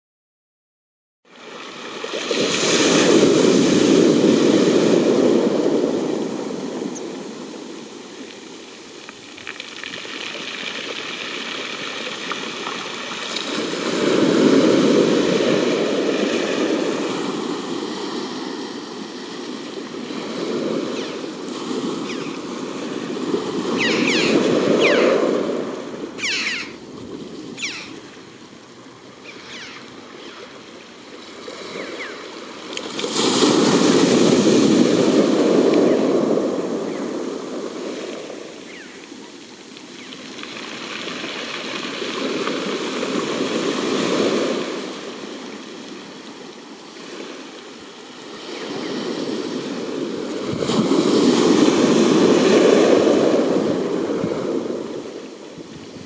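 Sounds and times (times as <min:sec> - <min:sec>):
sea waves breaking on shore: 0:01.3 - 0:56.0.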